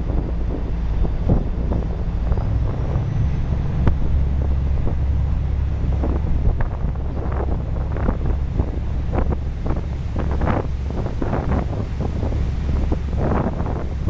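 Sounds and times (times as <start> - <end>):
boat engine drone: 0.0 - 14.0
wind buffeting microphone: 0.0 - 14.0.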